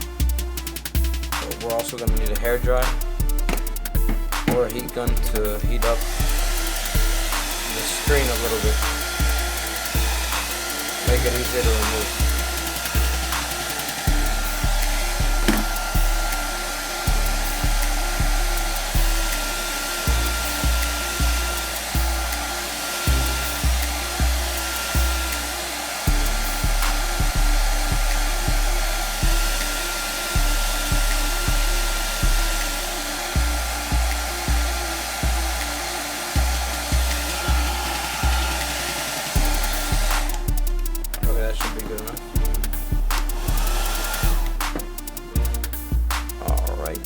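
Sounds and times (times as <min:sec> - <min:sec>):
hair dryer blowing: 0:00.0 - 0:47.0
music with pulsing bass: 0:00.0 - 0:47.0.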